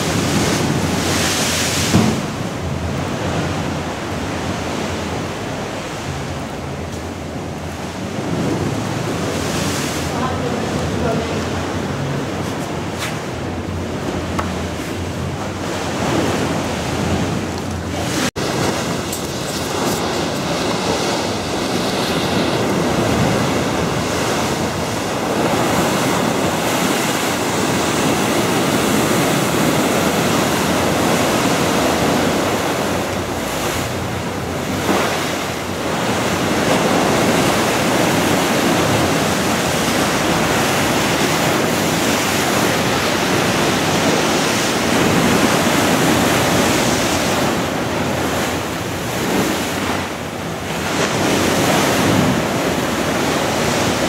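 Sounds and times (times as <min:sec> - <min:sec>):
waves breaking against sea wall: 0:00.0 - 0:54.0
wind buffeting microphone: 0:00.0 - 0:54.0.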